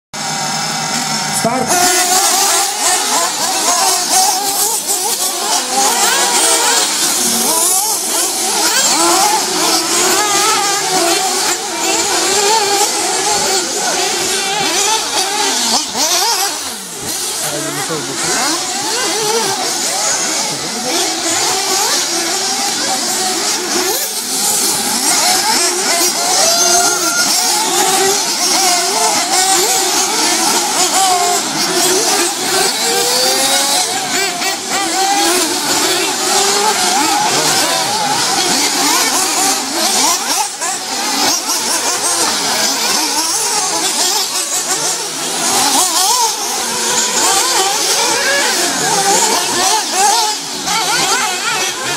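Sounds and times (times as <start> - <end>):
rc car engines buzzing: 0.2 - 51.9.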